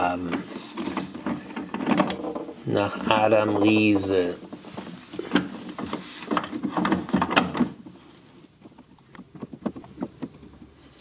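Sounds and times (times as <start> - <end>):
hardware clicks and knocks: 0.0 - 11.0.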